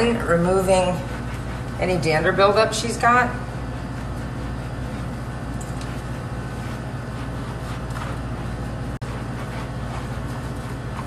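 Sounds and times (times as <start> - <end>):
low machine hum: 0.0 - 11.0
rubber mitt scrubbing fur: 0.0 - 11.0.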